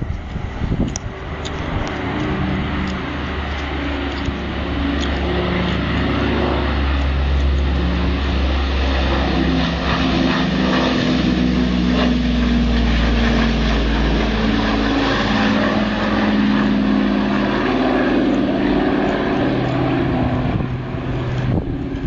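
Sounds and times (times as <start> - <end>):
propeller airliner engines droning: 0.0 - 22.0.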